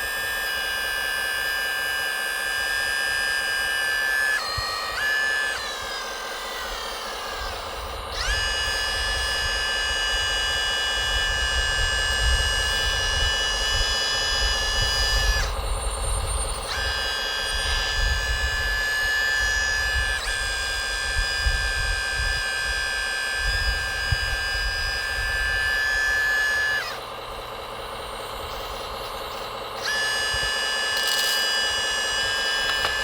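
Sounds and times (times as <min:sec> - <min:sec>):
electric motors whining: 0:00.0 - 0:33.0.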